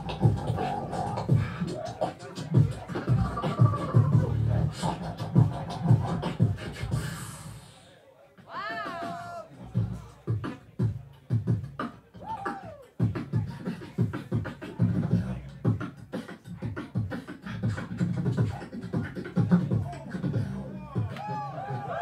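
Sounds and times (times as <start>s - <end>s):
beatboxing into a microphone: 0.0s - 22.0s.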